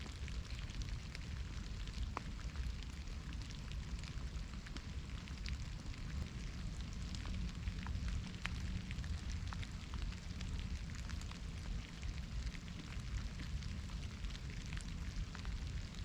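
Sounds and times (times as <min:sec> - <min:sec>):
continuous low rumble: 0:00.0 - 0:16.0
soft rain in forest: 0:00.0 - 0:16.0.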